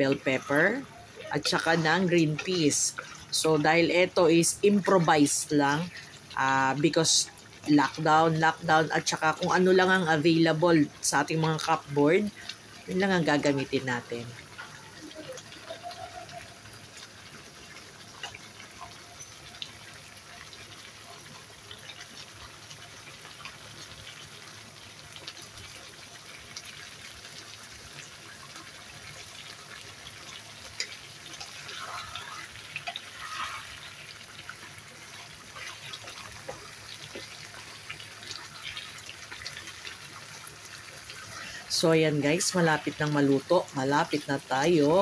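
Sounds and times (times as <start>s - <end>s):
stew bubbling and popping: 0.0s - 45.0s.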